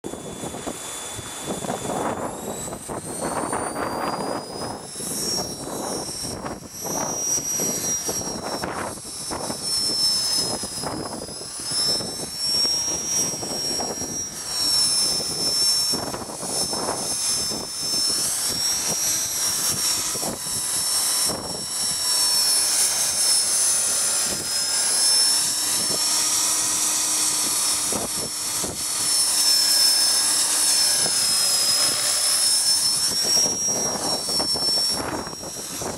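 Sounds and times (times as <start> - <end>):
rc helicopter motor whining: 0.1 - 35.9
wind buffeting microphone: 0.1 - 35.9.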